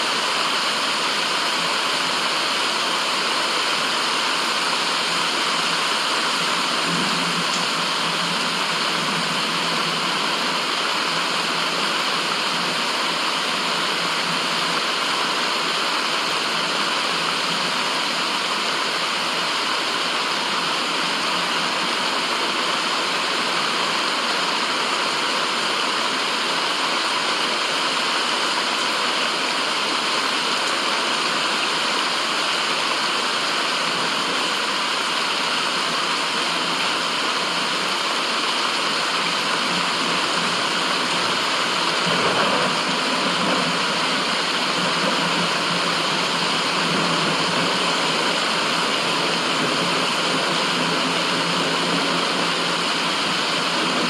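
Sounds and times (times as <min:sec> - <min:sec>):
white noise rushing: 0:00.0 - 0:54.0.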